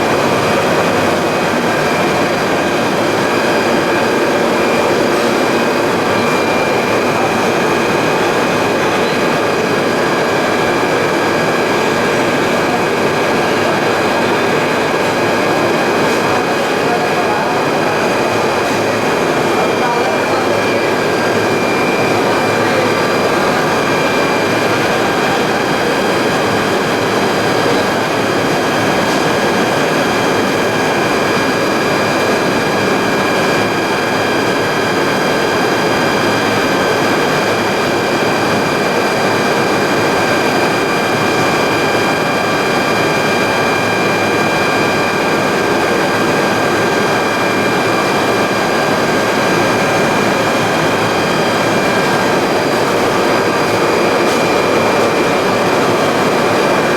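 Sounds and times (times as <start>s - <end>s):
high machine whine: 0.0s - 56.9s
machinery running: 0.0s - 56.9s.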